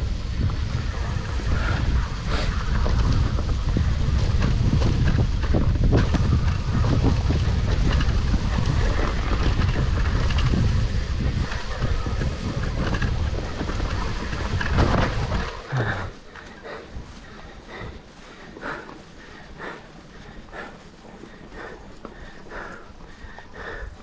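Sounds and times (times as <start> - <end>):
bike rattling and knocking: 0.0 - 24.0
wind buffeting microphone: 0.0 - 24.0.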